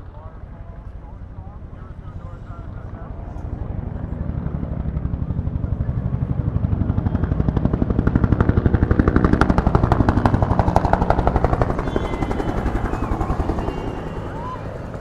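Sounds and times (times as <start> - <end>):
helicopter engine drone: 0.0 - 15.0
helicopter rotor beating: 0.0 - 15.0.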